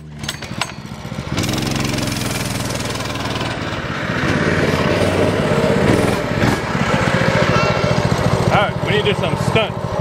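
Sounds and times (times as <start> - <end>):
small engine running: 0.0 - 4.4, 5.0 - 10.0.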